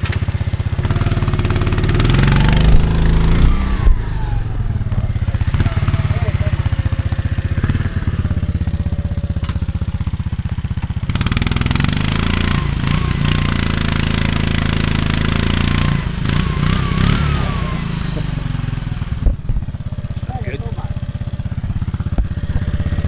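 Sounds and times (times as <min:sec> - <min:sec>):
motorcycle engine labouring: 0:00.0 - 0:23.0.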